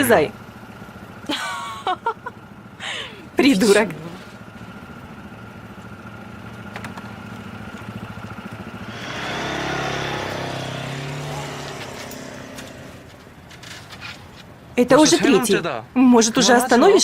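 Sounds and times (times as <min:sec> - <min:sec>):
motorcycle engine idling and revving: 0:00.0 - 0:15.1.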